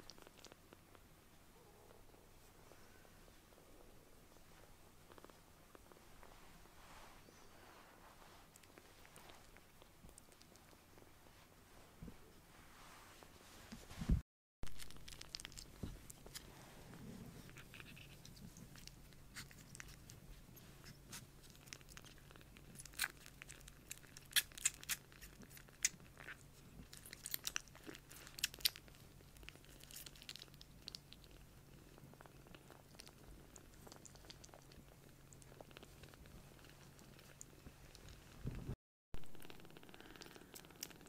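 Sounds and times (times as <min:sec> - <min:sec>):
kitten purring: 0:00.0 - 0:13.4, 0:14.7 - 0:41.0.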